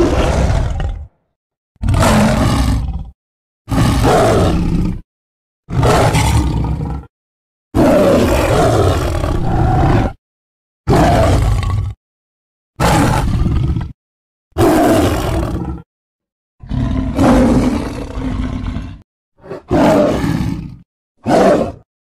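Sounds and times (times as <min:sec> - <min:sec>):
big cat roars: 0:00.0 - 0:05.0, 0:05.7 - 0:07.1, 0:07.8 - 0:10.2, 0:10.9 - 0:12.0, 0:12.8 - 0:14.0, 0:14.6 - 0:15.9, 0:16.6 - 0:21.9.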